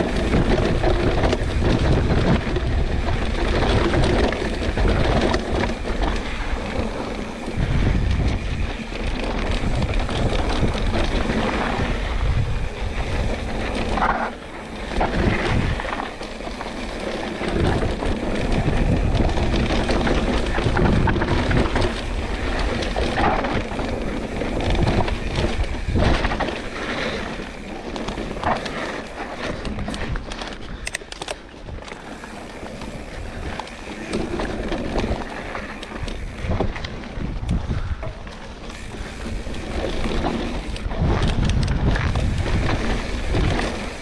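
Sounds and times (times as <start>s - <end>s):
bike rattling and knocking: 0.0s - 44.0s
bike tyres on loose dirt: 0.0s - 44.0s
wind buffeting microphone: 0.0s - 44.0s.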